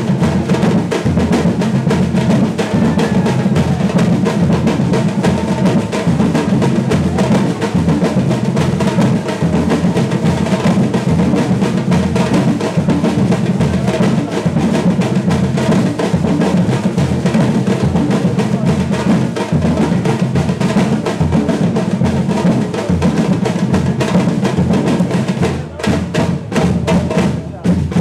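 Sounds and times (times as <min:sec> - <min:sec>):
rolling snare drums: 0:00.0 - 0:28.0.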